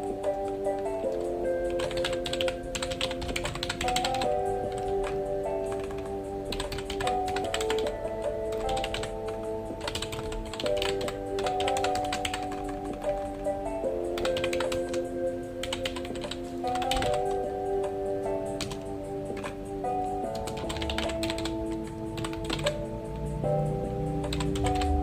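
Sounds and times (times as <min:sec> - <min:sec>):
soft music of held chords: 0:00.0 - 0:25.0
typing on computer keyboard: 0:00.3 - 0:13.3, 0:14.1 - 0:17.5, 0:18.6 - 0:19.6, 0:20.4 - 0:22.9, 0:24.2 - 0:25.0.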